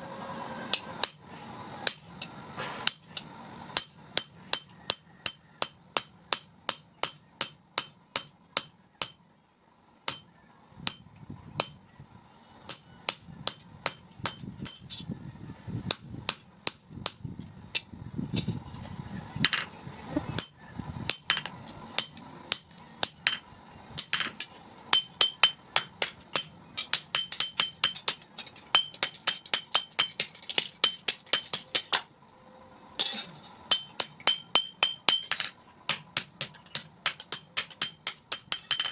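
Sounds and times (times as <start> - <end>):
hammer striking steel on anvil: 0.7 - 9.4, 10.0 - 11.8, 12.7 - 15.1, 15.9 - 17.9, 20.4 - 32.1, 33.0 - 38.9.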